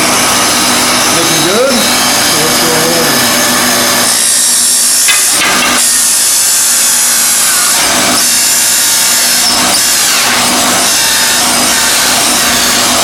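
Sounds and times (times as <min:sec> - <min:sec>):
hole saw cutting: 0:00.0 - 0:13.0.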